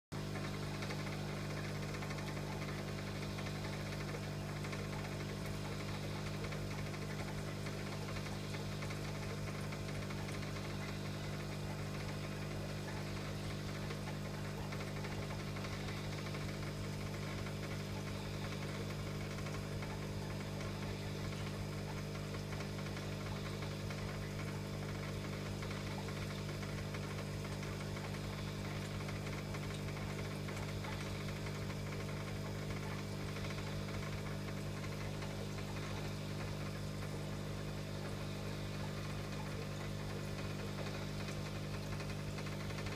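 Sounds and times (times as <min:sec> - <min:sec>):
aquarium pump humming: 0:00.1 - 0:42.9.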